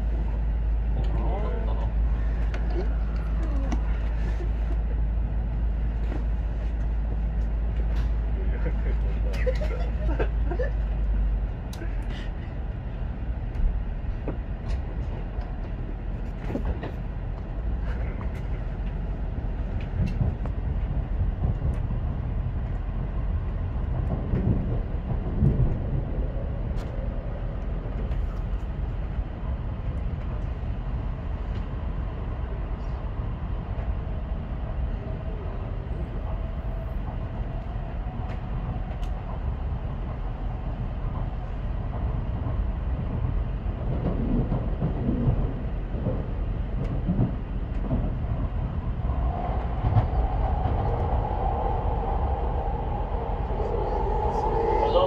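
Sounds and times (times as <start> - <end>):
train cabin low rumble: 0.0 - 55.0
train whine: 0.0 - 55.0.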